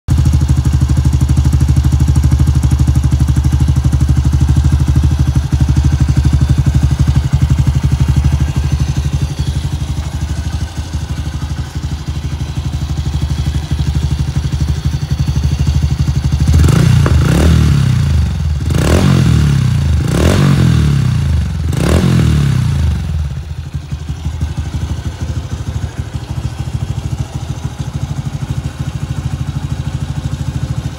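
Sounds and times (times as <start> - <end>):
motorcycle engine idling: 0.1 - 30.9.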